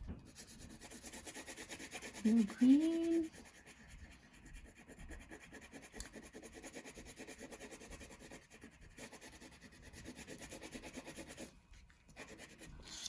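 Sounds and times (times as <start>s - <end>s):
crayon scratching on paper: 0.2s - 13.0s.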